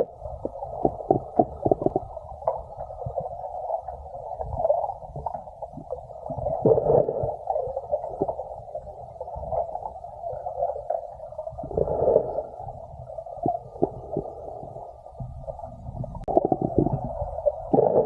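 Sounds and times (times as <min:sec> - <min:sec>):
muffled underwater rush: 0:00.0 - 0:18.0.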